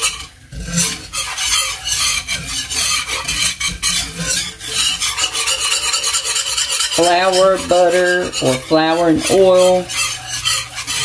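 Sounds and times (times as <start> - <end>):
whisk scraping pan: 0.0 - 11.0.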